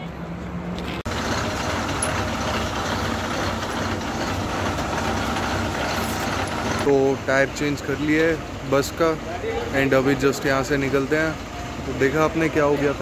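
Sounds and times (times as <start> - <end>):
large vehicle engine idling: 0.0 - 13.0.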